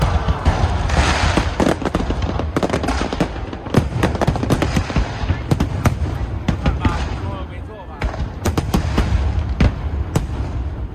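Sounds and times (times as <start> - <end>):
fireworks cracks and bangs: 0.0 - 10.9
fireworks hissing: 0.0 - 10.9.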